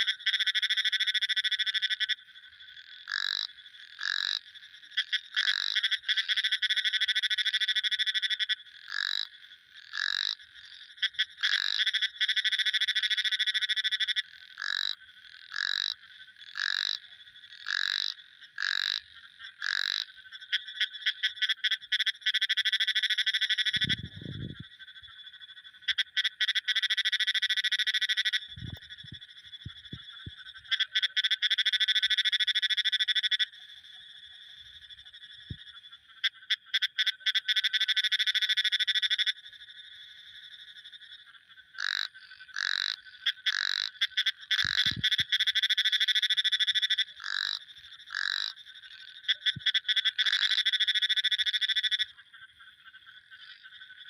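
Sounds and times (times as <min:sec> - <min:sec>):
frogs trilling chorus: 0:00.0 - 0:54.0
short frog calls: 0:00.0 - 0:54.0.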